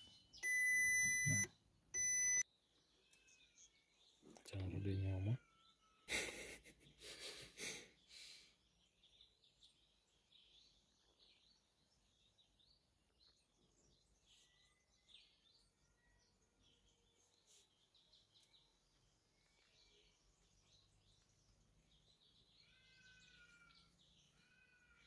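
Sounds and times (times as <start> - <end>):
faint bird chirps: 0.0 - 6.3, 7.0 - 25.0.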